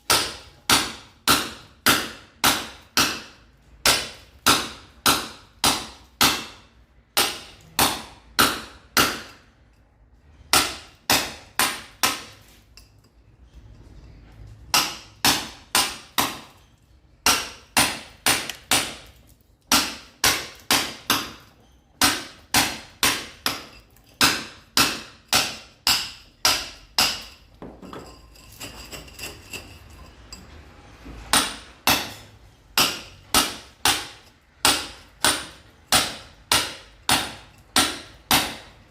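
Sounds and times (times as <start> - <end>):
hammer breaking concrete: 0.0 - 9.4, 10.5 - 12.6, 14.7 - 28.1, 31.3 - 32.2, 32.8 - 38.9.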